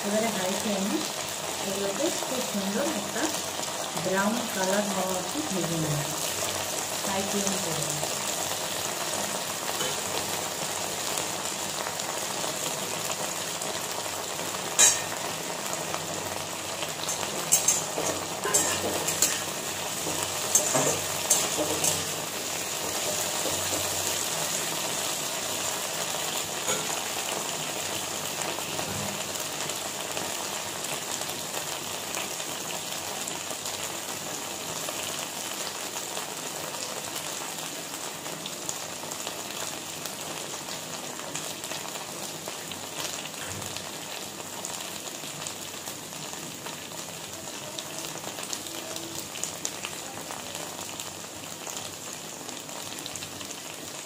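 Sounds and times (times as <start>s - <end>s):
okra sizzling in hot oil: 0.0s - 54.0s.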